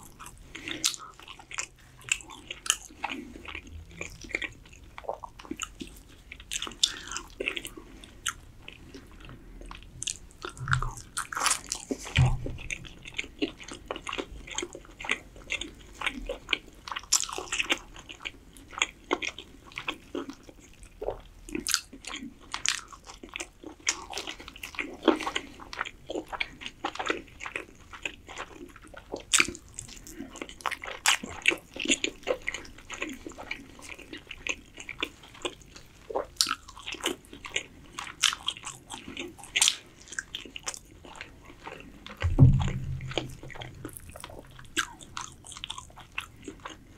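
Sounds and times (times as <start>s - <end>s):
chewing and biting food: 0.0s - 46.9s.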